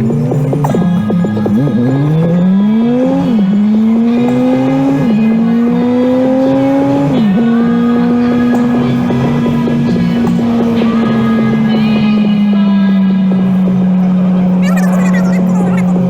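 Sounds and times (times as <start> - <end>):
car engine accelerating through gears: 0.0 - 16.0.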